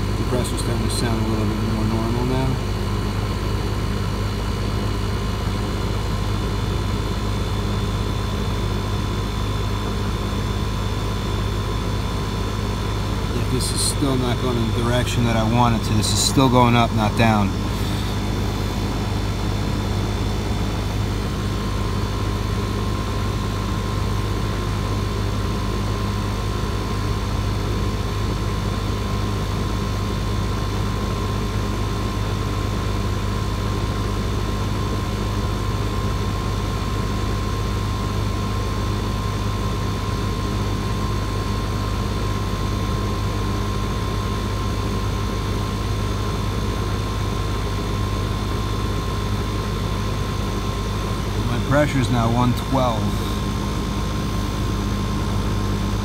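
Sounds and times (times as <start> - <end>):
air conditioning unit running: 0.0 - 56.0.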